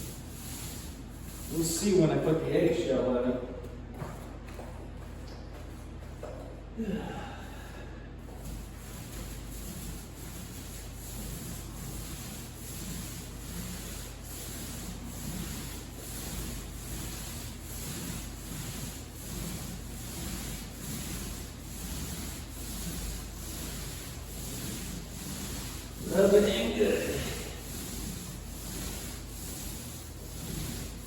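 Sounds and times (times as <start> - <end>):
paint roller rubbing on drywall: 0.0 - 6.6, 8.2 - 31.0.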